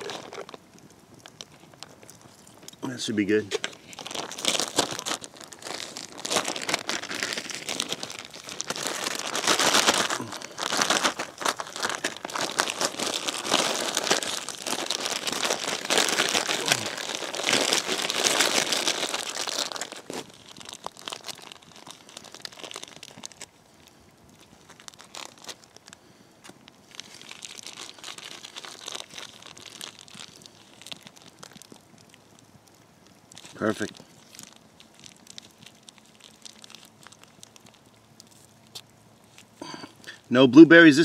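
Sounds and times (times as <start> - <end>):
crinkling rustling handling noise: 0.0 - 40.3.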